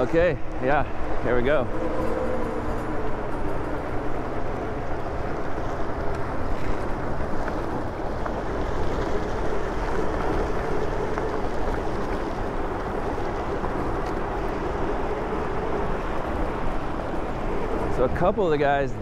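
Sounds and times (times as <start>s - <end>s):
tyres rolling on dirt trail: 0.0s - 19.0s
wind rushing over microphone: 0.0s - 19.0s.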